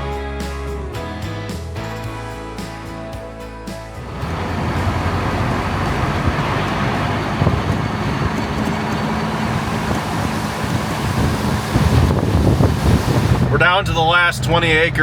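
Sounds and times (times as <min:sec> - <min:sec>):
guitar music: 0:00.0 - 0:12.6
truck engine and road noise: 0:00.0 - 0:15.0.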